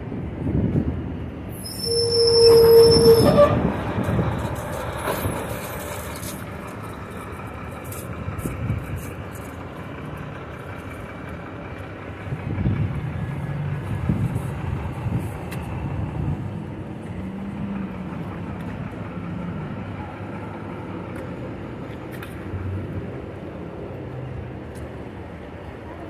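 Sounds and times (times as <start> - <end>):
traffic hum: 0.0 - 26.0
vehicle engine rumbling: 0.0 - 26.0.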